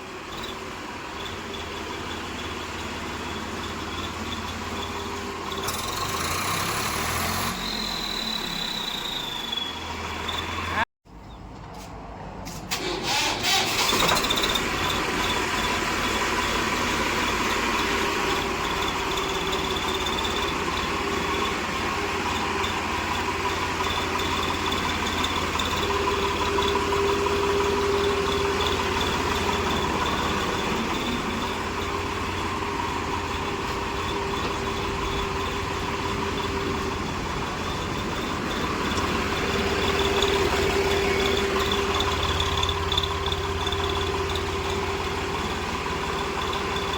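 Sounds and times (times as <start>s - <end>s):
tractor engine idling: 0.0s - 7.5s, 12.4s - 46.9s
high-pitched exhaust whistle: 0.3s - 10.8s, 14.2s - 46.9s.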